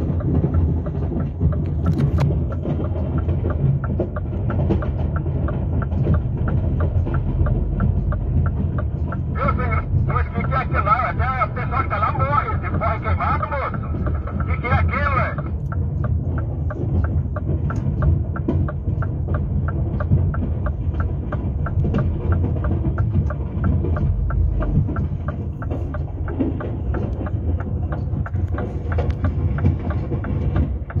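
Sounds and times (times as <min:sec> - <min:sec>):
even ticking: 0:00.0 - 0:31.0
truck engine idling: 0:00.0 - 0:31.0.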